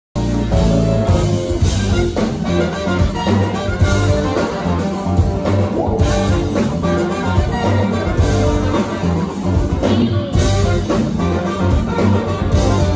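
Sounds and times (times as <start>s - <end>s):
brass funk band playing: 0.2s - 12.9s.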